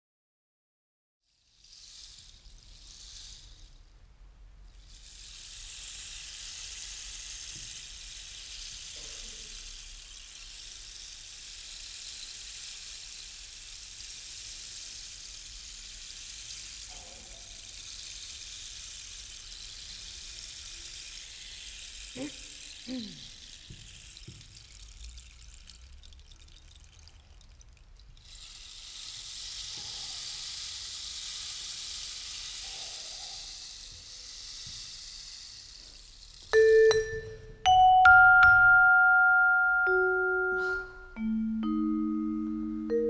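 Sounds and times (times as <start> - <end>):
rain stick trickling hiss: 1.2 - 43.0.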